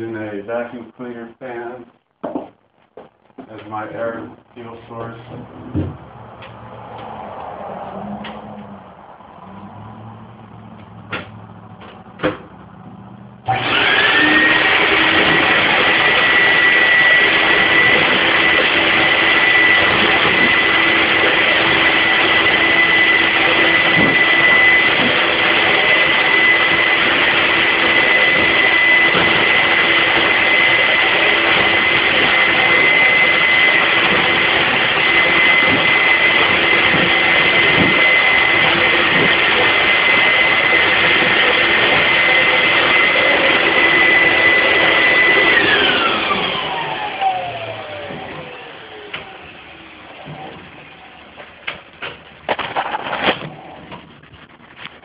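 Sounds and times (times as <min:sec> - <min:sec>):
blower fan whining: 0:02.7 - 0:55.0.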